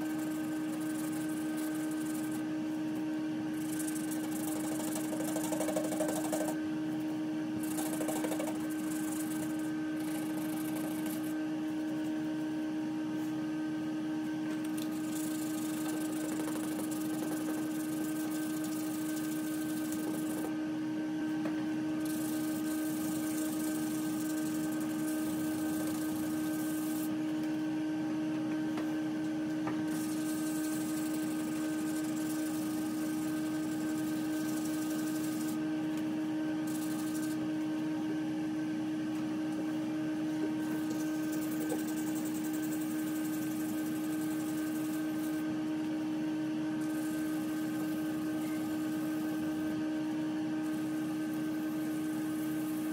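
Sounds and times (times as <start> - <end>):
steady motor hum: 0.0 - 52.9.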